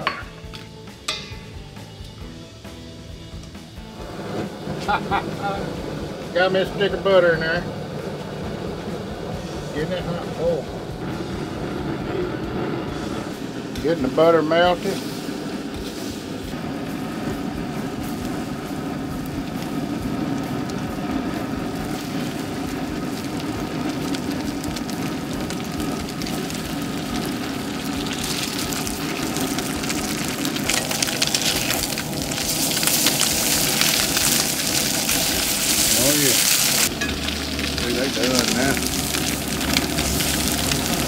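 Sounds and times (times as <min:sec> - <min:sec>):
fish sizzling in skillet: 0:00.0 - 0:41.0
gas burner running: 0:00.0 - 0:41.0.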